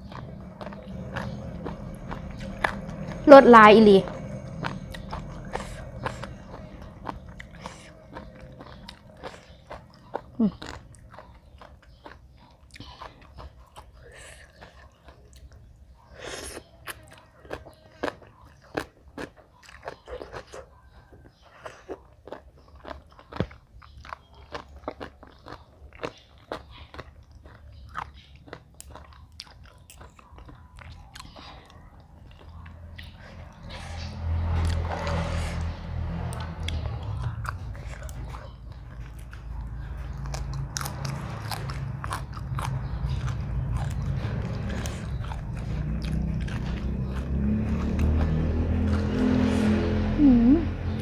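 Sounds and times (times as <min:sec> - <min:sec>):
person chewing and crunching food: 0:00.0 - 0:49.8.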